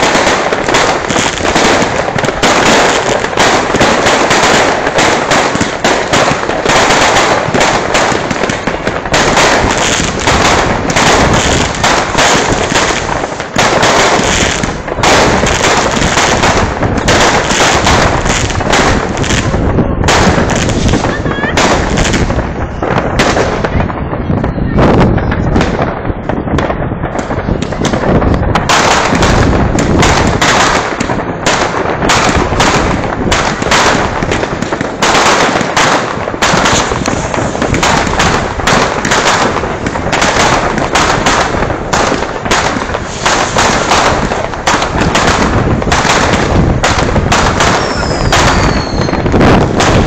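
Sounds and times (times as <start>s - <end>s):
fireworks bangs and crackles: 0.0s - 50.0s.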